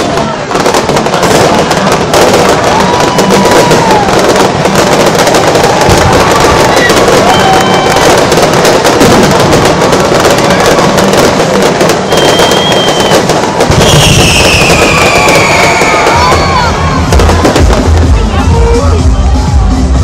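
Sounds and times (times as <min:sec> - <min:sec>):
fireworks crackling: 0:00.0 - 0:20.0
falling firework whistle: 0:01.0 - 0:17.9.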